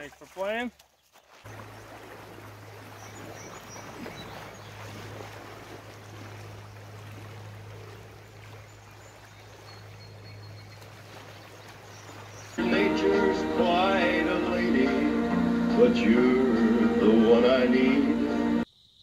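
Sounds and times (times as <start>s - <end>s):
river water running: 0.0s - 18.6s.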